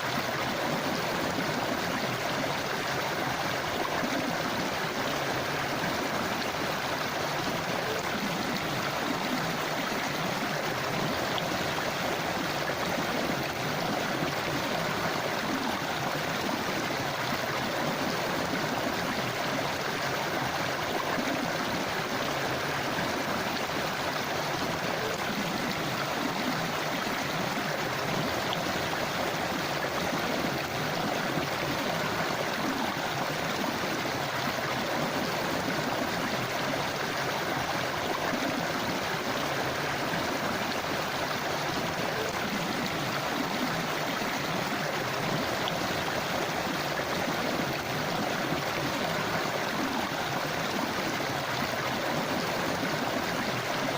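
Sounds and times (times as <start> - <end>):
river water rushing and gurgling: 0.0 - 53.9.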